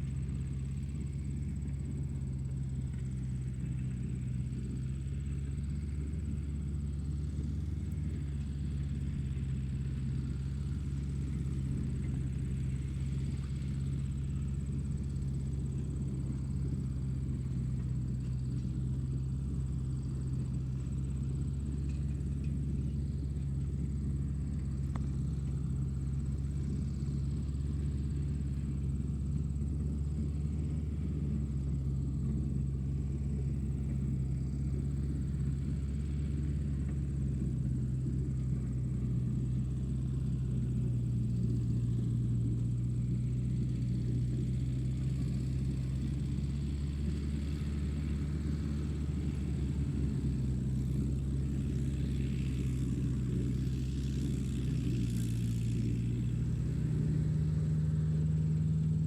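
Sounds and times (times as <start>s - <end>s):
tractor engine rumbling: 0.0s - 59.0s.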